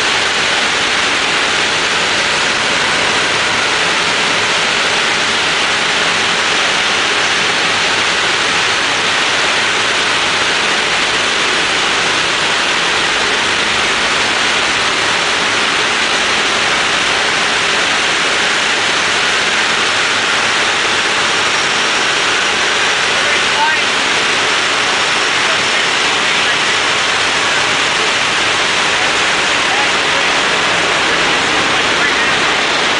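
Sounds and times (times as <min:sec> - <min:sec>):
low engine hum: 0:00.0 - 0:32.9
wind rushing inside aircraft: 0:00.0 - 0:32.9.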